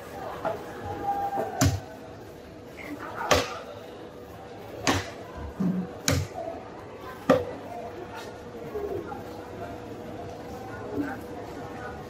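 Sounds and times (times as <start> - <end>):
background chatter: 0.0 - 12.0.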